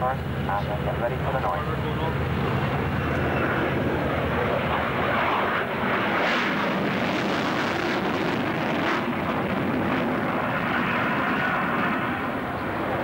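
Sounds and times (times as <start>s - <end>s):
loud jet engine noise: 0.0s - 13.0s.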